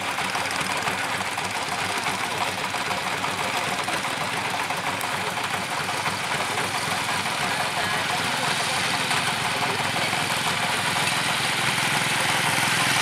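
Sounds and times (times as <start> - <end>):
walking tractor engine running: 0.0 - 13.0.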